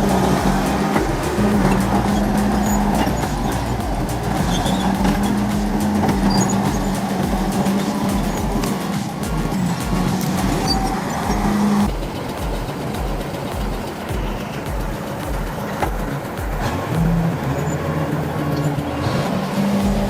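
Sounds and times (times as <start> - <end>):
background music: 0.0 - 20.0
heavy vehicle engine running: 0.0 - 20.0.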